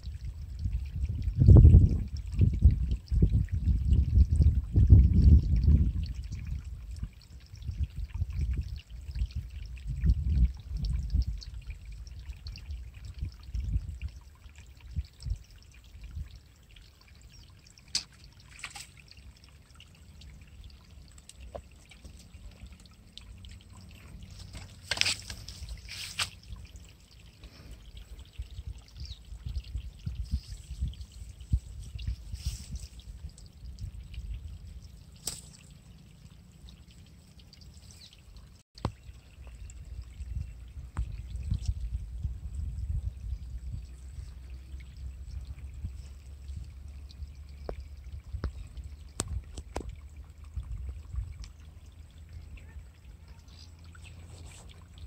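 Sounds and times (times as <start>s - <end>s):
wind rumbling on microphone: 0.0s - 19.5s, 20.1s - 55.0s.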